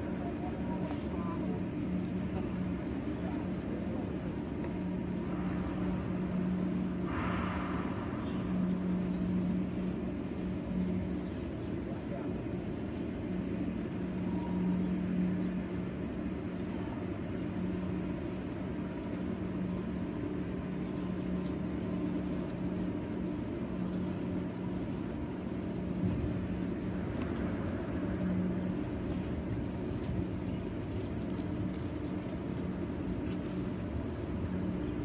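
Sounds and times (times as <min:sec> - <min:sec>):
low engine drone: 0:00.0 - 0:35.0.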